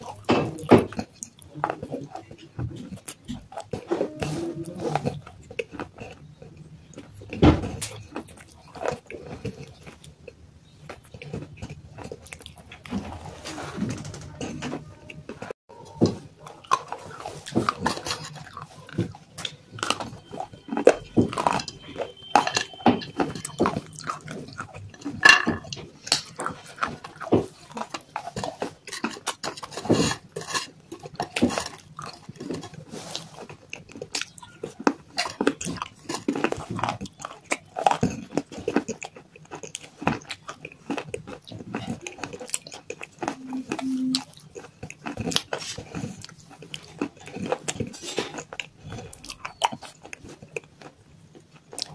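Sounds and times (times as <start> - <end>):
chewing and crunching clay: 0.0 - 51.9.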